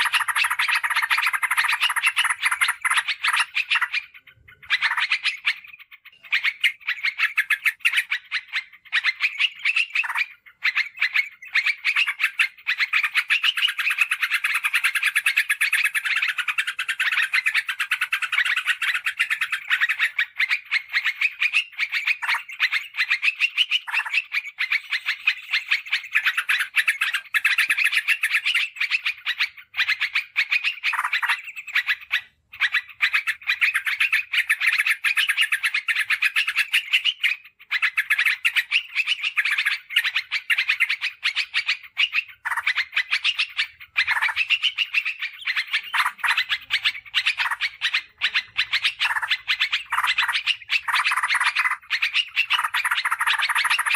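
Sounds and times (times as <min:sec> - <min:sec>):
bulbul singing fast chatter: 0:00.0 - 0:53.9.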